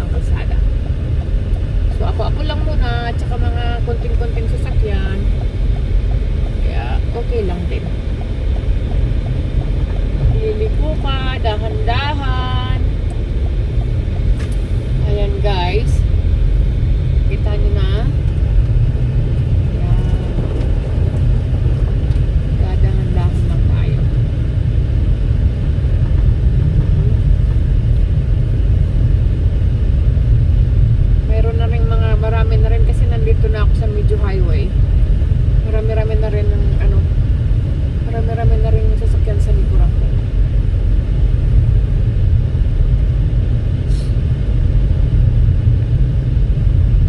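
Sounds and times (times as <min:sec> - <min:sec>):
car cabin tyre and engine rumble: 0:00.0 - 0:47.0.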